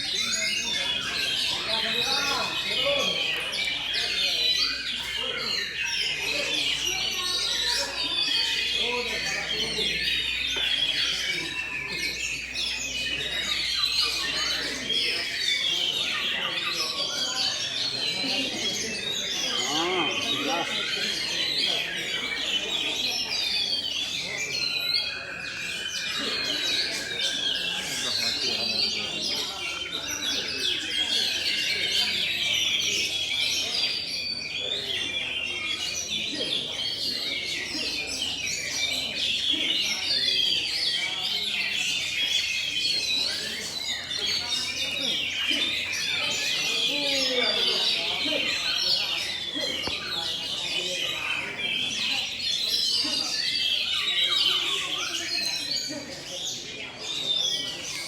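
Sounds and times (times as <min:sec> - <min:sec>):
birds whistling and chirping: 0:00.0 - 0:58.0
songbirds singing: 0:00.0 - 0:58.0.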